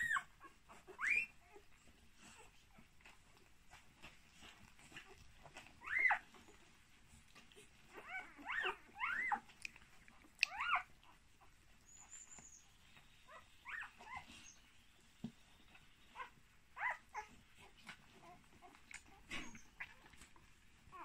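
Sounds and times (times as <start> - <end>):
puppies squeaking and whimpering: 0.0 - 21.0.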